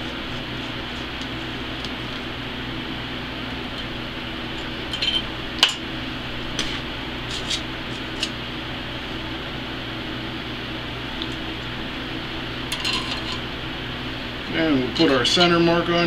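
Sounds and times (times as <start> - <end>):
steady hum with low tones: 0.0 - 16.0.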